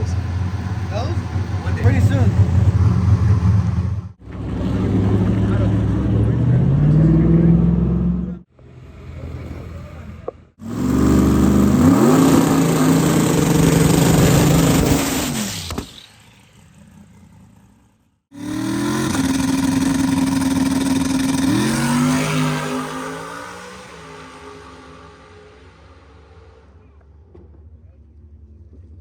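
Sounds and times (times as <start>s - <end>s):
drag car engine revving: 0.0s - 27.6s.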